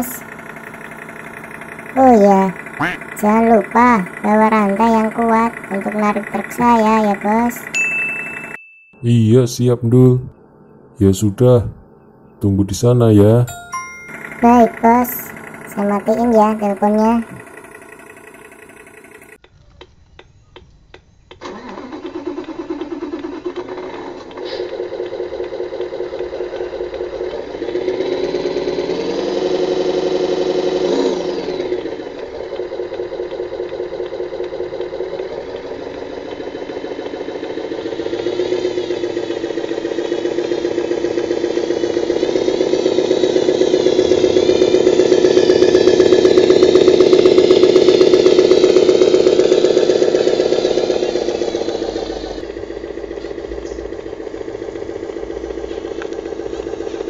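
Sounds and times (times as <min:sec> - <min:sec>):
truck engine revving and idling: 0:00.0 - 0:08.6, 0:09.2 - 0:19.4, 0:21.4 - 0:57.0.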